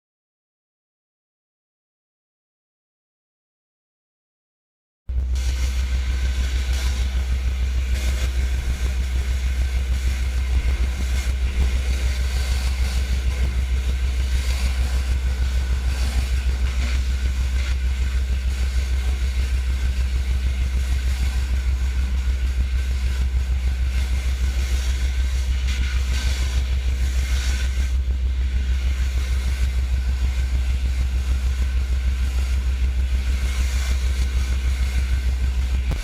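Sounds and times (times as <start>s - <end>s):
pressure washer engine running: 5.1s - 36.0s.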